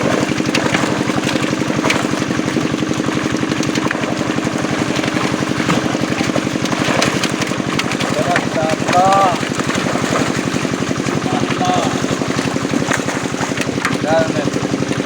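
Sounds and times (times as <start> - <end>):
small engine chugging steadily: 0.0 - 15.0.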